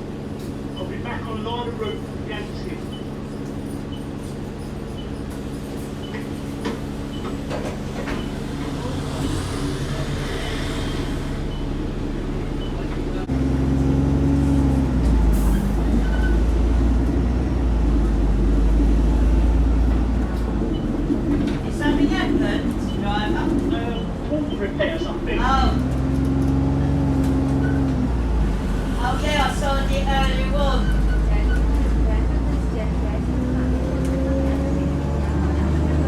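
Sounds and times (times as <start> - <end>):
bus engine running: 0.0 - 36.0.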